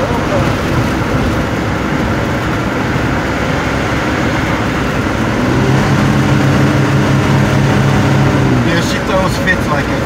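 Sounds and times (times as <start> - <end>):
engine hum: 0.0 - 10.0
road noise inside vehicle: 0.0 - 10.0.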